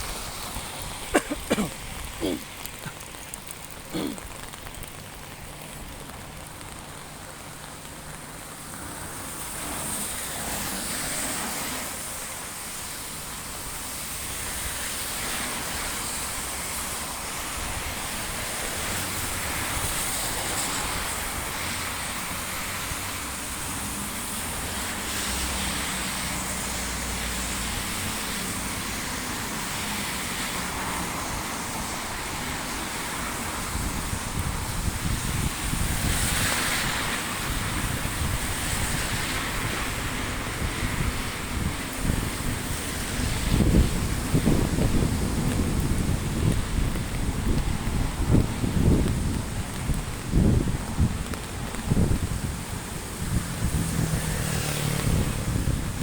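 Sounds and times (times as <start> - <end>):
heavy rain falling: 0.0 - 56.0
road traffic rumble: 0.0 - 56.0.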